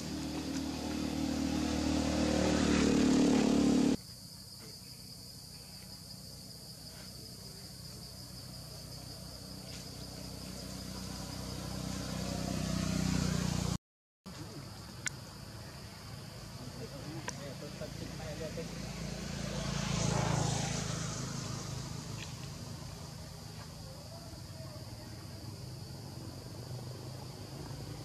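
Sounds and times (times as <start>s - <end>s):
vehicle engine hum: 0.0s - 4.0s, 8.2s - 28.0s
insects droning: 0.0s - 13.7s, 14.3s - 28.0s.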